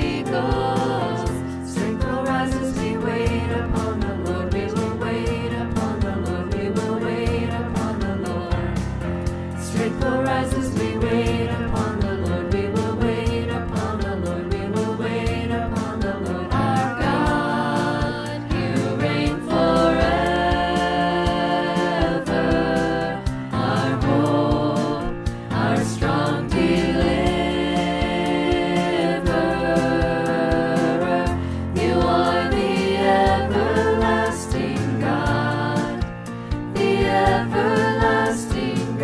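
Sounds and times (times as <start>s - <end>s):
voices singing worship song: 0.0s - 39.0s.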